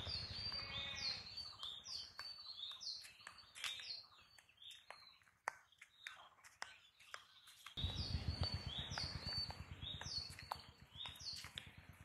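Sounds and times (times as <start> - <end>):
footsteps on dry leaves: 0.0 - 5.2, 6.4 - 12.0.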